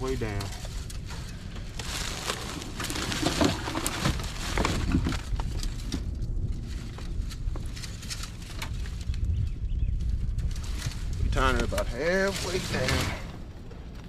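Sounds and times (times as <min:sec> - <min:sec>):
rustling and knocks of branches: 0:00.0 - 0:14.0
steady low rumble: 0:00.0 - 0:14.0.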